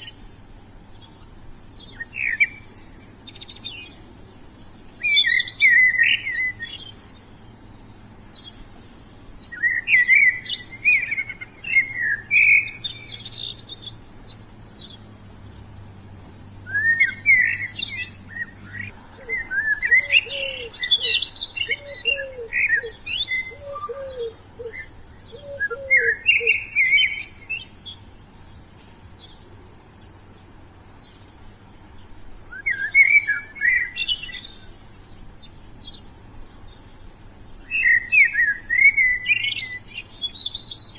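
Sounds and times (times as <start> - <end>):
low repeated bird call: 0.0 - 40.9
songbirds chirping and warbling: 0.0 - 40.9.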